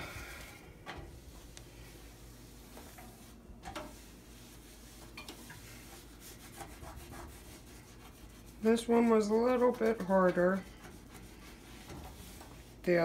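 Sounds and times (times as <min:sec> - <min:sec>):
towel rubbing stove top: 0:00.0 - 0:13.0.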